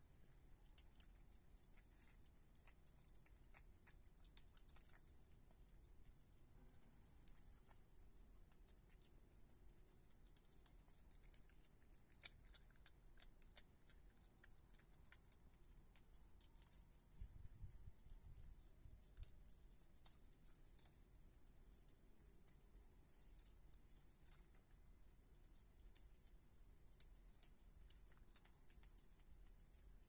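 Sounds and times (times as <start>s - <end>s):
animal chewing wet food: 0.0s - 30.0s.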